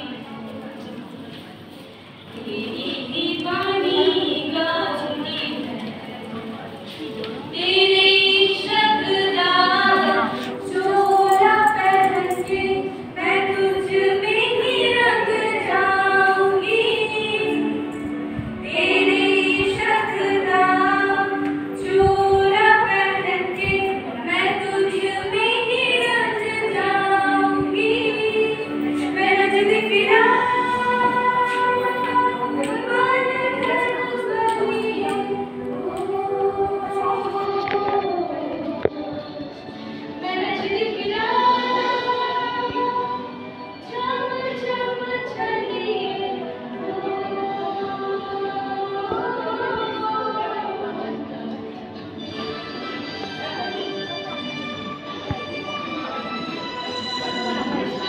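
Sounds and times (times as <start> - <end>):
women singing together: 2.4 - 5.8, 7.5 - 39.4, 40.0 - 51.3.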